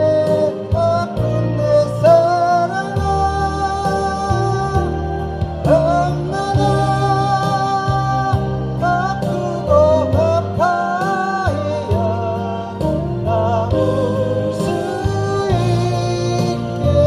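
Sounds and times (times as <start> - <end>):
guitar accompaniment: 0.0 - 17.0.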